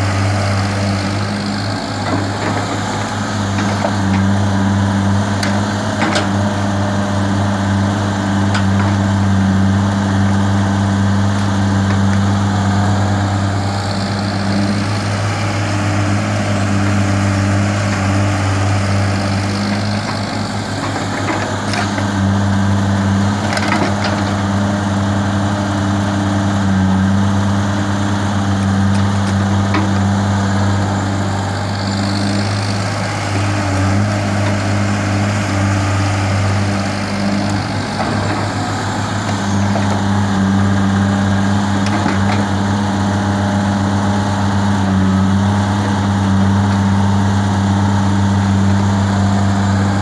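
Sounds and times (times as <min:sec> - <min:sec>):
excavator diesel engine humming: 0:00.0 - 0:50.0.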